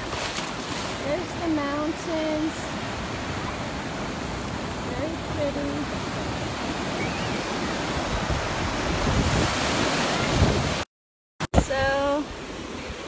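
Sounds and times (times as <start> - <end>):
ocean surf breaking on sand: 0.0 - 10.8, 11.6 - 13.0.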